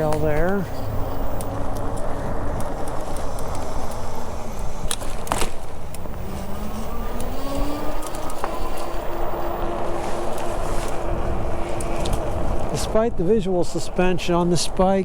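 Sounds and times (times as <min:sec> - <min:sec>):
bicycle riding rumble: 0:00.0 - 0:15.0
motor vehicle engine: 0:00.0 - 0:15.0.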